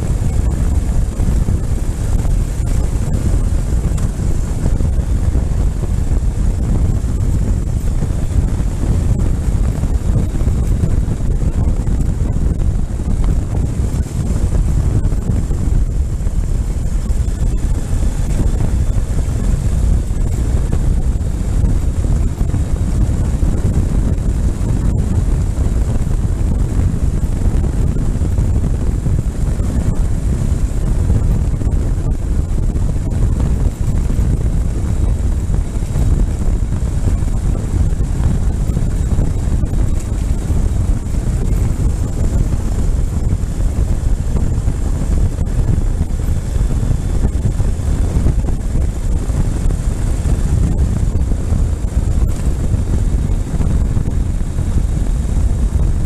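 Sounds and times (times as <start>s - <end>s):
motorcycle running: 0.0s - 56.0s
wind buffeting microphone: 0.0s - 56.0s.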